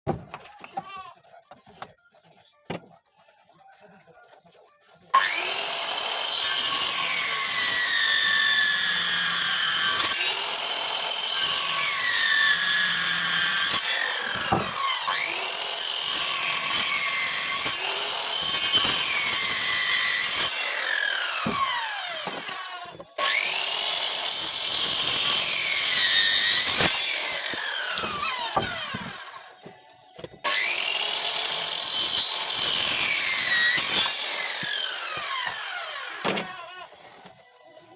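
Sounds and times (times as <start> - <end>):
power tool cutting wood: 5.1 - 37.0.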